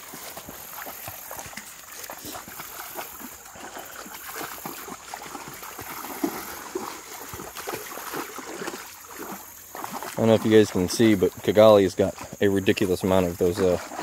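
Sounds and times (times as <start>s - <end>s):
dogs splashing through water: 0.0s - 14.0s.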